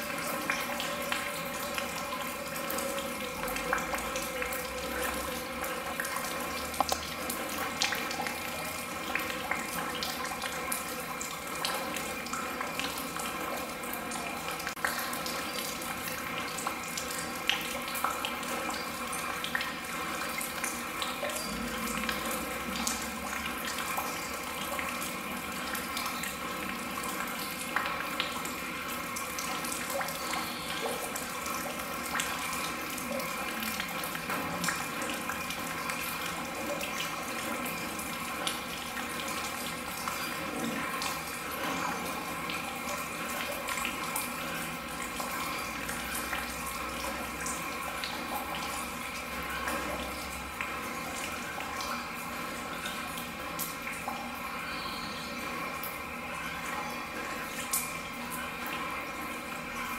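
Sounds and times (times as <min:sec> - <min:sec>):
water falling and splashing: 0:00.0 - 0:54.4
sharp water drips: 0:00.0 - 0:59.9.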